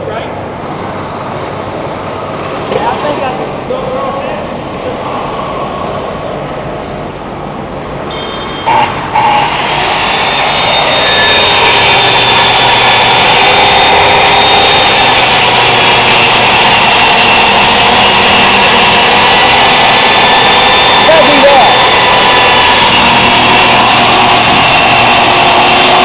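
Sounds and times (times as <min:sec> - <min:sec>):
circular saw whine: 0:00.5 - 0:26.0.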